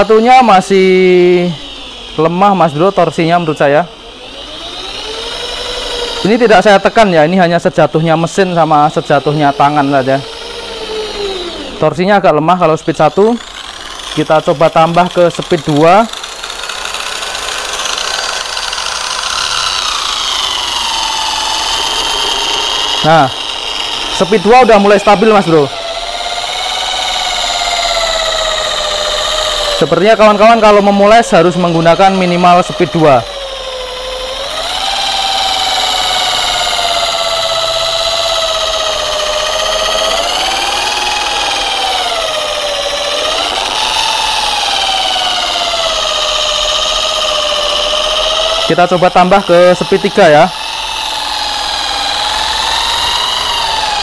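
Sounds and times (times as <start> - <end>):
electric polisher motor whine: 0.0 - 54.0.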